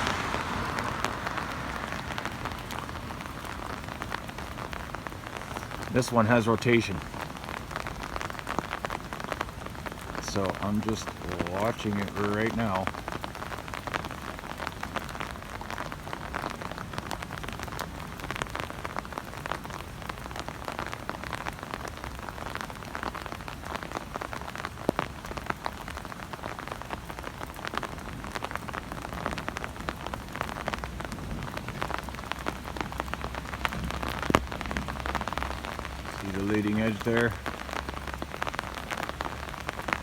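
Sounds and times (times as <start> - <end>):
rain falling: 0.0 - 40.0
raindrops ticking close by: 0.0 - 40.0.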